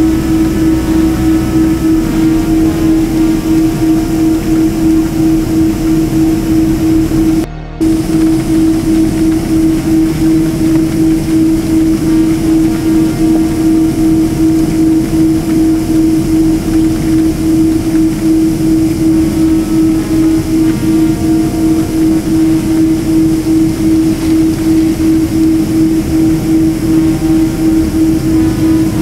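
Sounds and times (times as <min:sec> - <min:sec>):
jet engines droning in cabin: 0:00.0 - 0:29.0.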